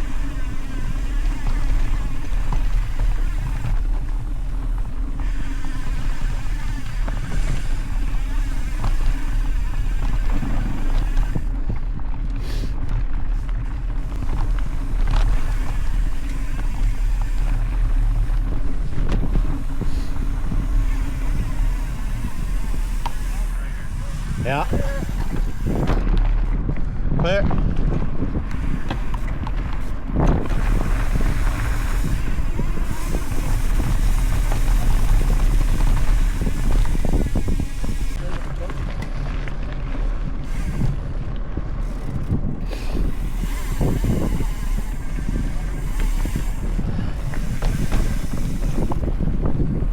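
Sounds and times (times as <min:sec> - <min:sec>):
faint clicks and rattles: 0:00.0 - 0:49.9
tyres on dirt trail: 0:00.0 - 0:49.9
wind buffeting microphone: 0:00.0 - 0:49.9.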